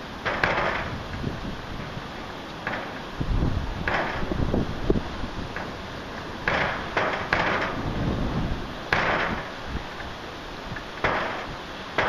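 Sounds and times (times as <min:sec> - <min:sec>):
heavy rain: 0:00.0 - 0:12.0
sharp splashing bursts: 0:00.0 - 0:12.0.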